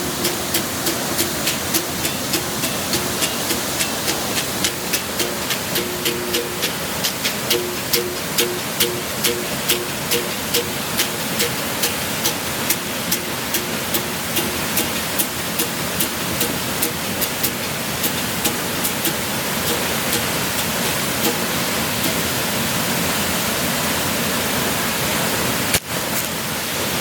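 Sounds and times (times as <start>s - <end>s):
berimbau strikes: 0.0s - 22.5s
waterfall rushing: 0.0s - 27.0s.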